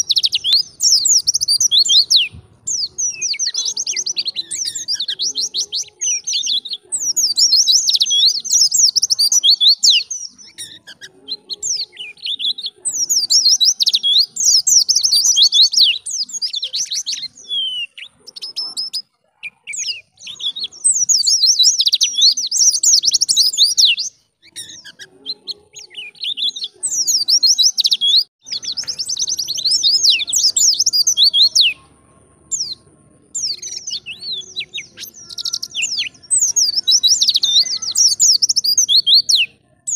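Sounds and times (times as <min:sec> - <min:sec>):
bird twittering and chirping: 0:00.0 - 0:39.9.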